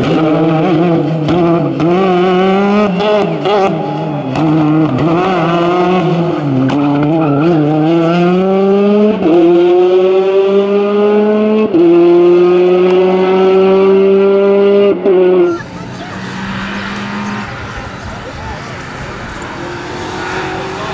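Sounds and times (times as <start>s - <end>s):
rally car engine revving: 0.0s - 20.9s.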